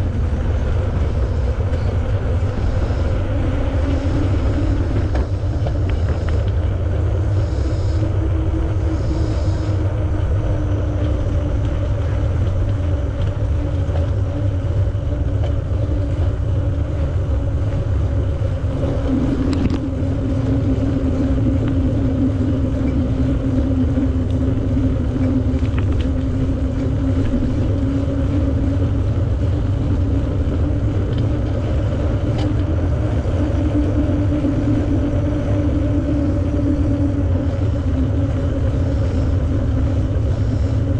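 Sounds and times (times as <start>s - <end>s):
bicycle rolling hum: 0.0s - 40.9s
wind rumbling on microphone: 0.0s - 40.9s.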